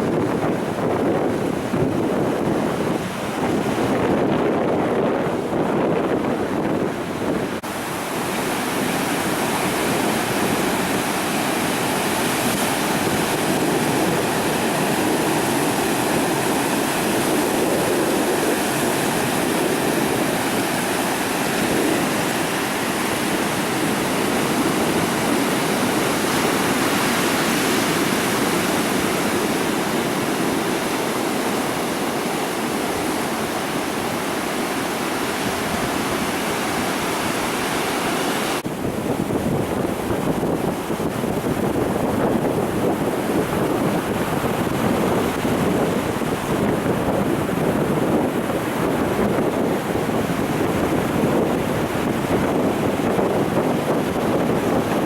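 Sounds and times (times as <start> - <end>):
ocean surf rushing: 0.0 - 55.0.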